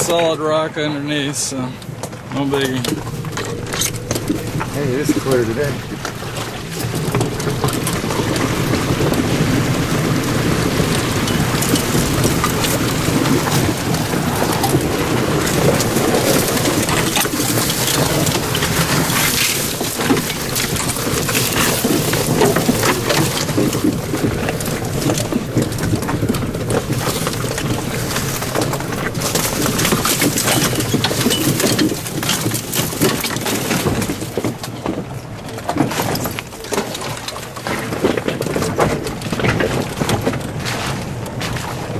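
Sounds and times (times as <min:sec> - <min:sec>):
tyres crunching over rocks and water: 0:00.0 - 0:41.9.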